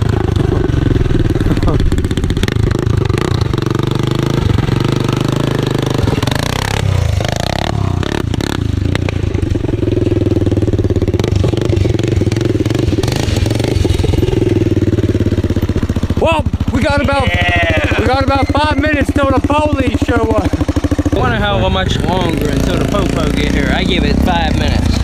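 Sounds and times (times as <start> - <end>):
quad bike engine revving: 0.0 - 25.0.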